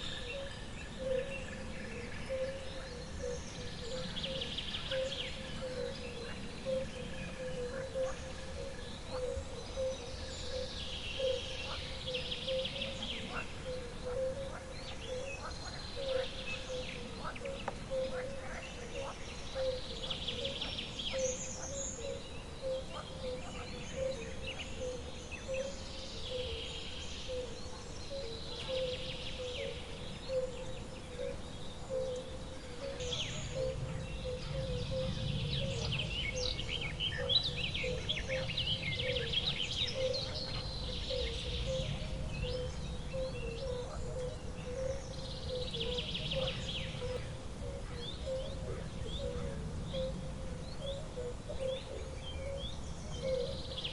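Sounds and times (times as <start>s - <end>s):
birds chirping and trilling: 0.0s - 53.9s
low pulsing bird call: 0.0s - 53.9s.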